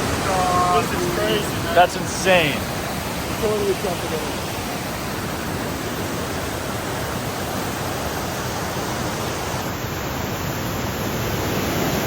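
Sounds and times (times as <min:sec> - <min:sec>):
fast-flowing water rushing: 0:00.0 - 0:12.0.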